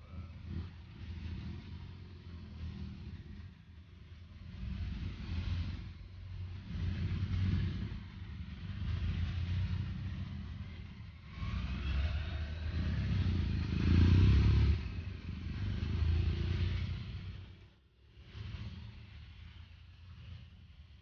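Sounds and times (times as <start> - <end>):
motorcycles riding past: 0.0 - 21.0.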